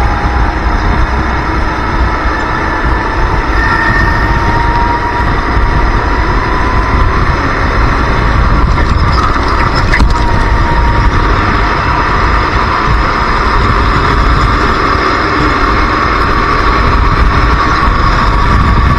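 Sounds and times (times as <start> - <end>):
go-kart engine running hard: 0.0 - 18.9.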